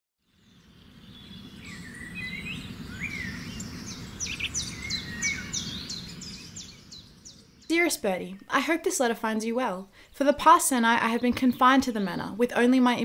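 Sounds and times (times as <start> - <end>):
birdsong: 0.2 - 13.0
low background noise: 0.3 - 13.0.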